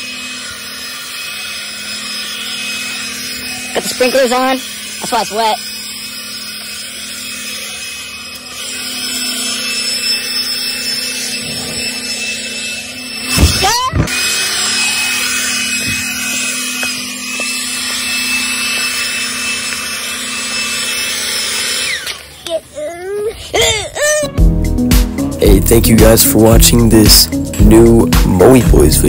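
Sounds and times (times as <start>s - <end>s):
leaf blower whining: 0.0s - 29.0s.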